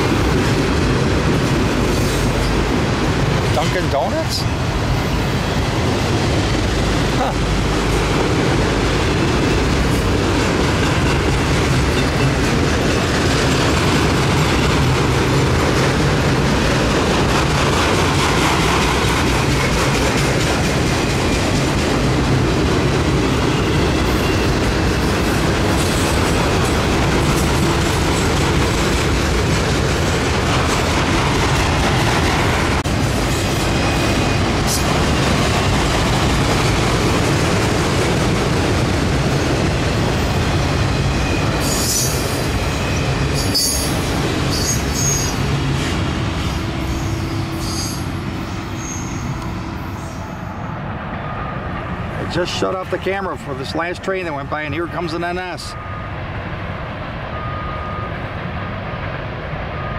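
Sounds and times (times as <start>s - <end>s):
clickety-clack over rail joints: 0.0s - 49.8s
train wheels rumbling on rails: 0.0s - 59.9s.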